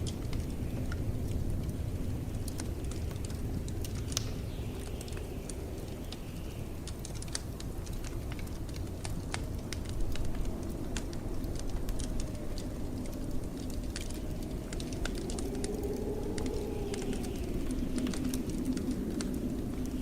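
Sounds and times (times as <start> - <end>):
blizzard wind rumbling: 0.0 - 20.0
wood fire crackling and popping: 0.0 - 20.0.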